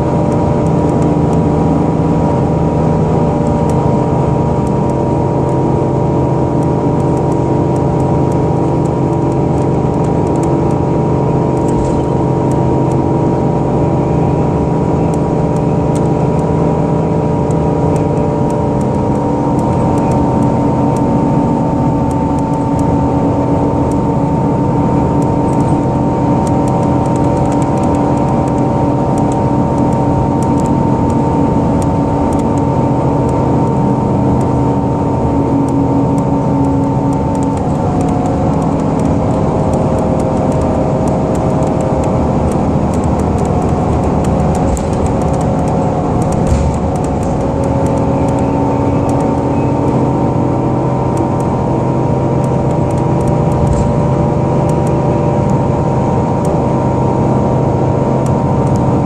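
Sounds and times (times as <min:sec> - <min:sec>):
bus engine whine: 0:00.0 - 0:59.0
road noise: 0:00.0 - 0:59.0.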